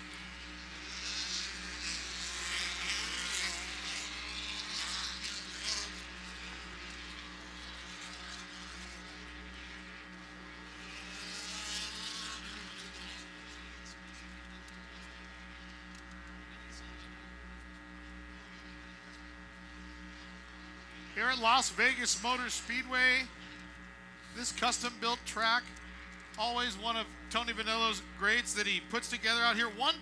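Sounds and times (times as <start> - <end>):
racing buggy engines buzzing: 0.0 - 30.0.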